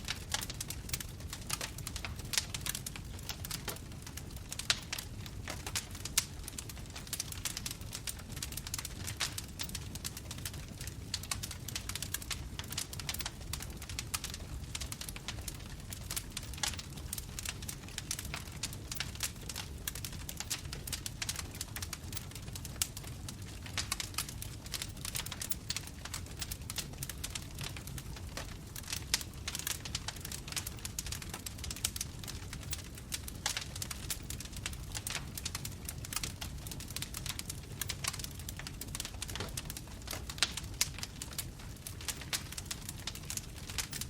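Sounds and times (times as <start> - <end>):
bonfire crackling and popping: 0.0 - 44.0
low rush of flames: 0.0 - 44.0.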